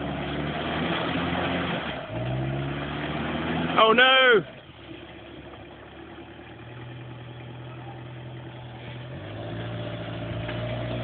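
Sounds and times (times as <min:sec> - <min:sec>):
truck engine running at low revs: 0:00.0 - 0:11.0.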